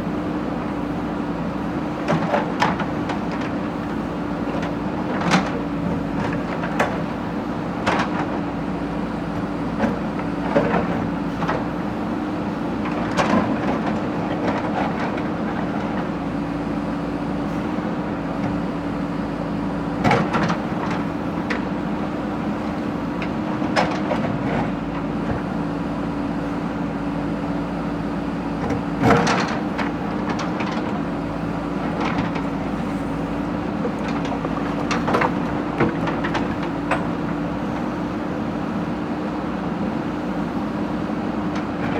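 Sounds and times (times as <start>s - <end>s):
backhoe engine humming: 0.0s - 41.9s.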